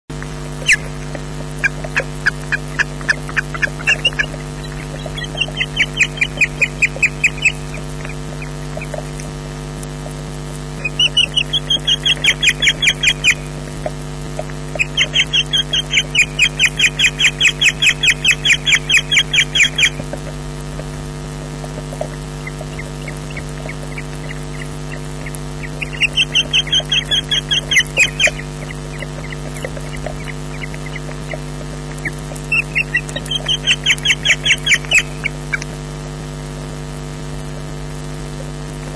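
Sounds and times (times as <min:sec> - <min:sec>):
steady electrical hum: 0:00.1 - 0:38.9
osprey piercing whistled calls: 0:00.6 - 0:09.3, 0:10.8 - 0:13.6, 0:14.4 - 0:20.2, 0:21.7 - 0:35.7.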